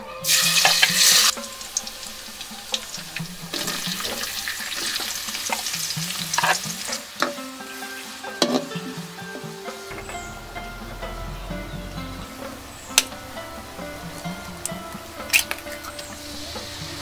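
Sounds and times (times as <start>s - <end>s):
garlic sizzling in hot oil: 0.2s - 11.0s, 12.2s - 17.0s.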